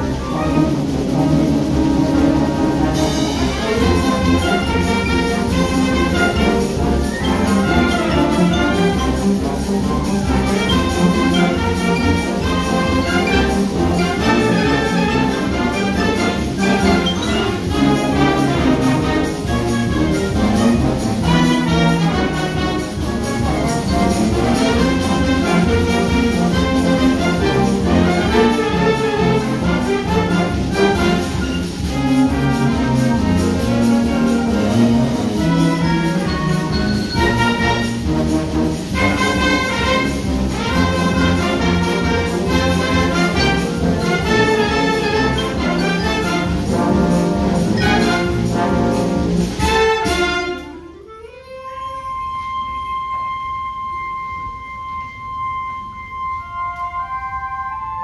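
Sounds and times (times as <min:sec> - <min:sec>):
brass instruments: 0:00.0 - 0:58.0
concert band playing: 0:00.0 - 0:58.0.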